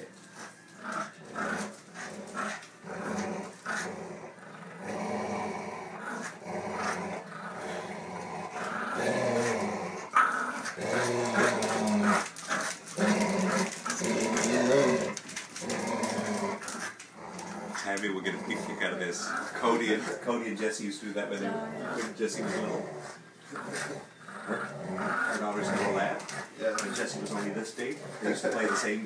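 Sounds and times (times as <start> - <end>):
dogs growling: 0.0 - 29.0.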